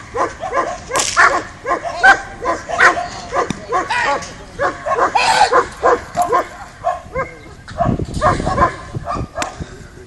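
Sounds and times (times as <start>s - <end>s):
dog barking: 0.1s - 9.6s.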